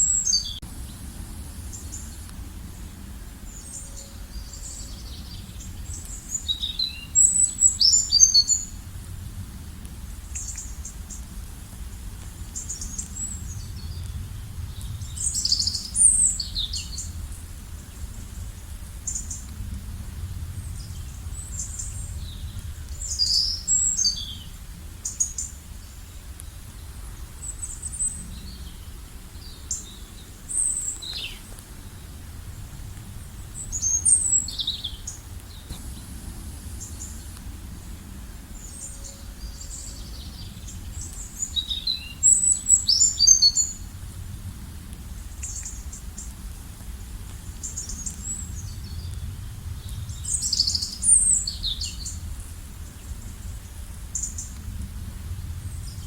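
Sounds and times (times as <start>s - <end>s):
songbirds chirping and trilling: 0.0s - 9.0s, 9.9s - 43.9s, 47.0s - 56.0s
low background rumble: 0.0s - 56.0s.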